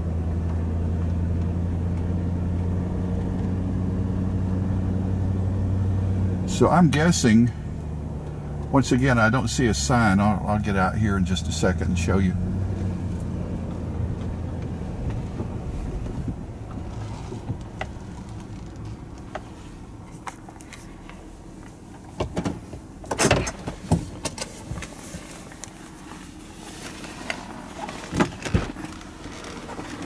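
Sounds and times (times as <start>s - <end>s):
vehicle engine hum: 0.0s - 30.0s.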